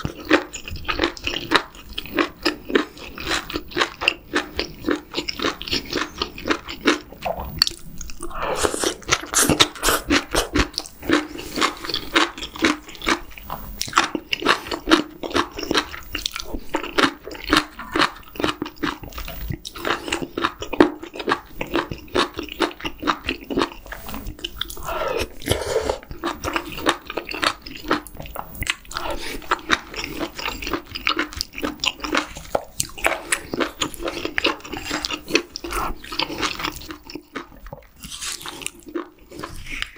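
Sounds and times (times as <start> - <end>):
person chewing with crisp crunches: 0.0 - 39.9.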